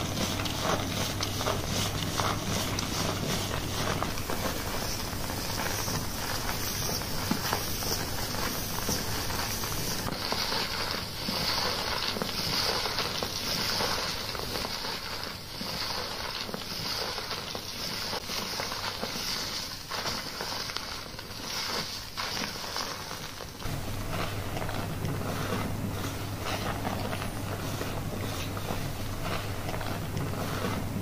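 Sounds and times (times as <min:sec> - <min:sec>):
foamy lather squishing: 0:00.0 - 0:31.0.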